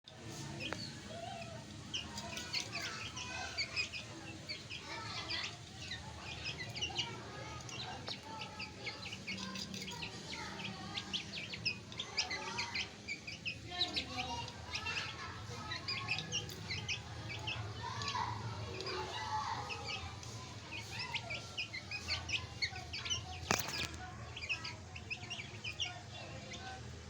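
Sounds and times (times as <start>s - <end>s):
chicks peeping: 0.1s - 27.0s.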